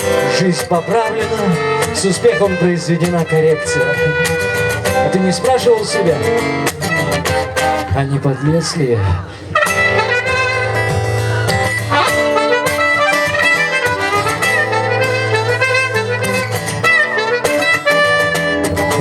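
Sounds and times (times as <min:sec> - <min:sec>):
wind instrument melody: 0:00.0 - 0:07.9, 0:09.5 - 0:19.0
bass line: 0:00.0 - 0:19.0
guitar: 0:00.0 - 0:19.0.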